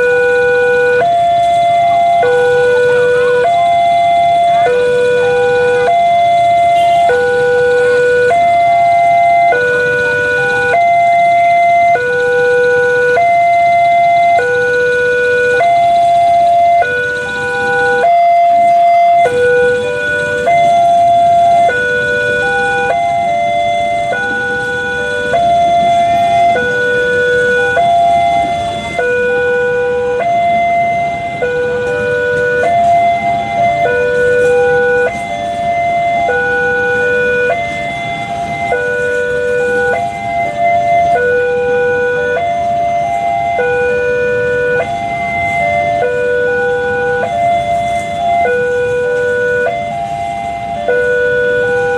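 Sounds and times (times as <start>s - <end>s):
level crossing alarm tones: 0.0s - 51.9s.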